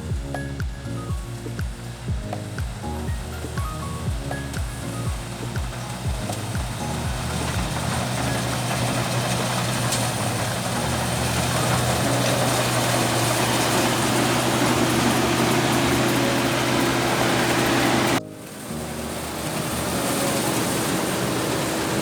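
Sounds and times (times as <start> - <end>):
harvester engine humming: 0.0 - 22.0.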